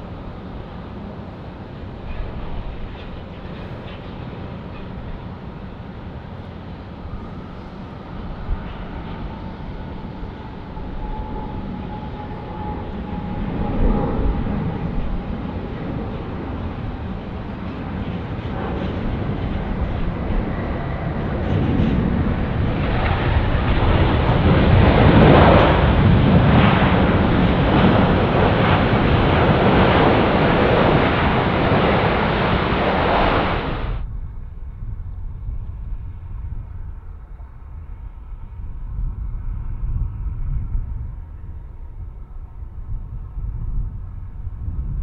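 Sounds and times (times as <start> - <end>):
jet airliner landing rumble: 0.0 - 45.0
jet engine whine: 0.0 - 45.0.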